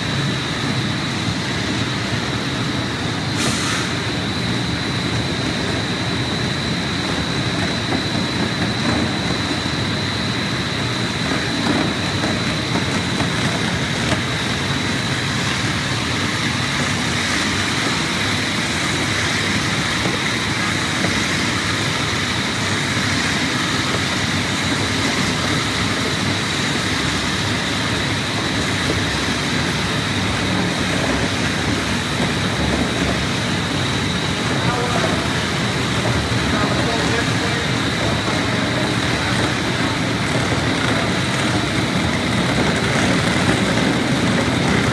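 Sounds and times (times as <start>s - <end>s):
floor grinder grinding concrete: 0.0s - 44.9s
high whine: 0.0s - 44.9s.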